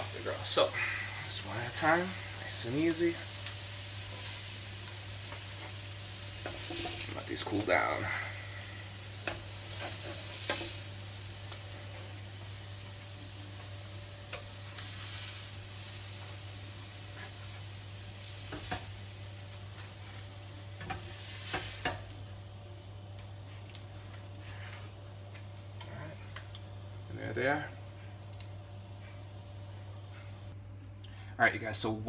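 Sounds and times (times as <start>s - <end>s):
burgers sizzling in pans: 0.0s - 30.4s.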